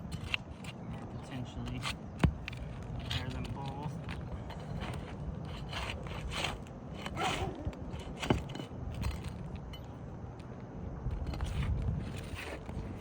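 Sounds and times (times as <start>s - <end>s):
roof shingles scraping and crackling: 0.0s - 9.6s, 11.4s - 13.0s.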